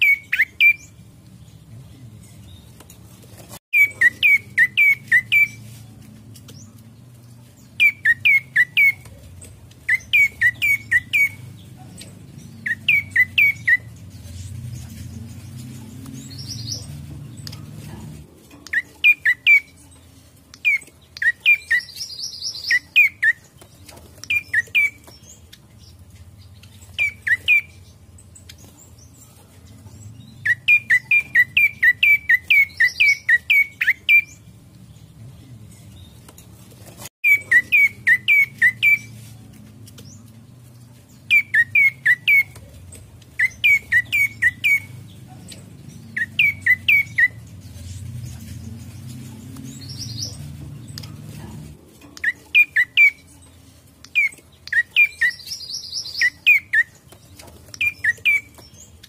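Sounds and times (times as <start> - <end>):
bird chirping in bursts: 0.0 - 2.9, 3.8 - 36.3, 37.2 - 39.4, 40.0 - 59.0.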